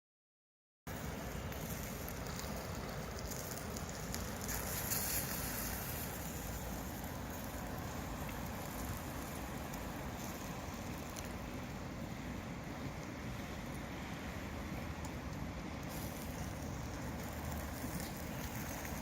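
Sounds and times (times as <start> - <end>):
campfire crackling: 0.9 - 19.0
steady rushing noise: 0.9 - 19.0.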